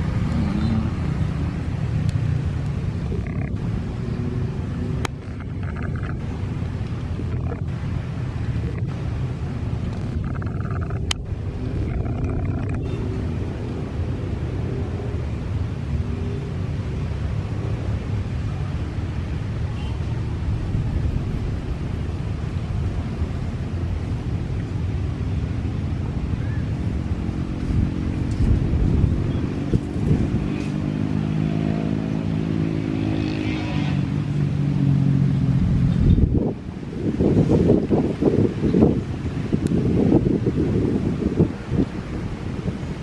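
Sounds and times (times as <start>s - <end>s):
engine hum: 0.0s - 43.0s
wind rumbling on microphone: 0.0s - 43.0s.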